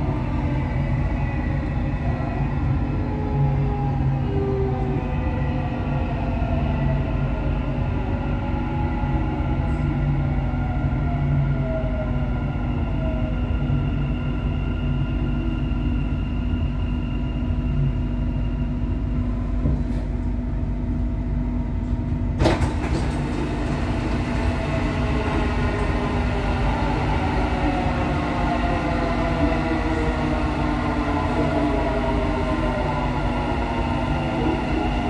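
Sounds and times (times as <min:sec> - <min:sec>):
train rumbling on track: 0:00.0 - 0:35.0.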